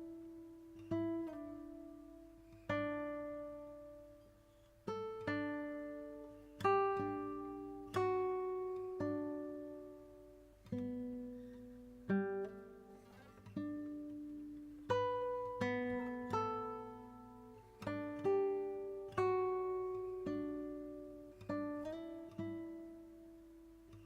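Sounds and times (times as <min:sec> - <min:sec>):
gentle plucked guitar: 0:00.0 - 0:24.0.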